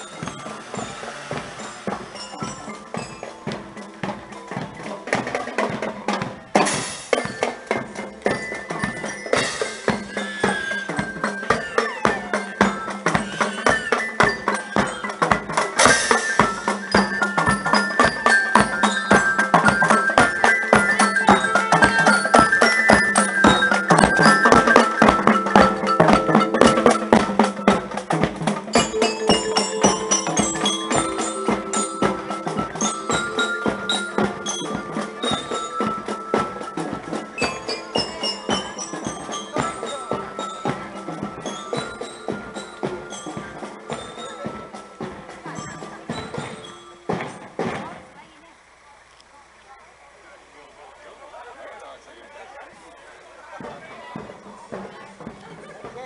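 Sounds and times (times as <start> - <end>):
bright high melody: 0.0 - 5.2, 7.1 - 47.4
marching band drumbeat: 0.0 - 48.3, 53.4 - 56.0.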